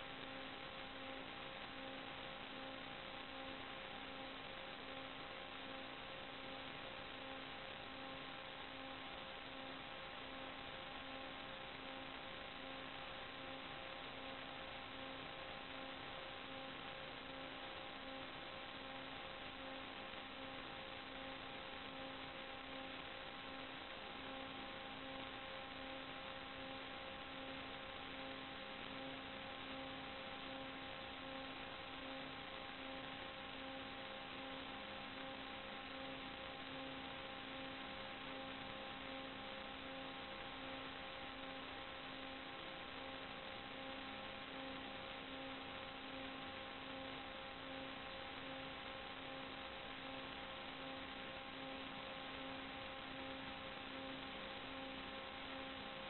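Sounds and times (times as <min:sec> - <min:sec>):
faint pulsing interference hum: 0:00.0 - 0:56.0
radio static hiss: 0:00.0 - 0:56.0.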